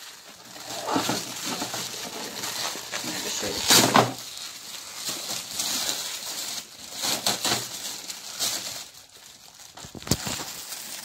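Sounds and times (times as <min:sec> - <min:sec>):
wrapping paper tearing and rustling: 0:00.0 - 0:11.0.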